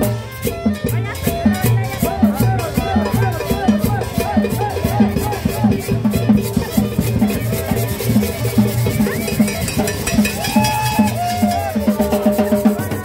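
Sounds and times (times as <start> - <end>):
double bass: 0.0 - 13.0
percussion beat: 0.0 - 13.0.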